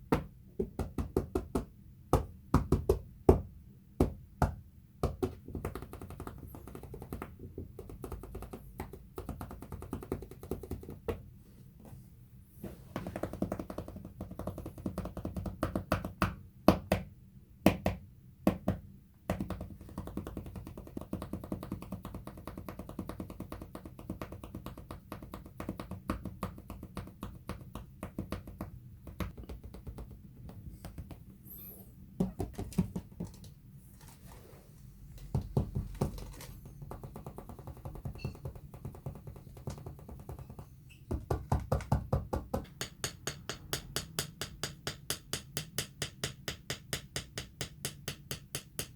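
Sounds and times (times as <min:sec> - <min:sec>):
fingers tapping on a floor: 0:04.0 - 0:11.2, 0:13.0 - 0:17.0, 0:17.7 - 0:31.3, 0:32.2 - 0:33.5, 0:35.2 - 0:48.9.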